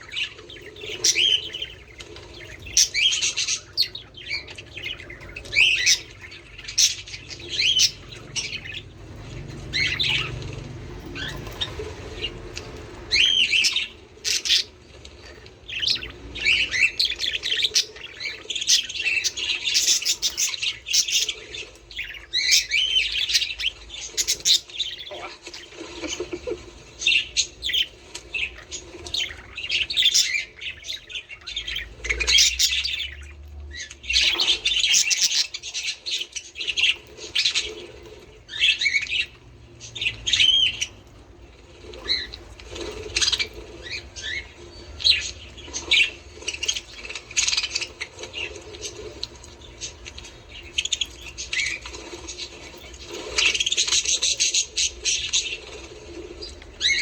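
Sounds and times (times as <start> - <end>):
budgerigars chattering: 0.0 - 14.8, 15.6 - 57.0.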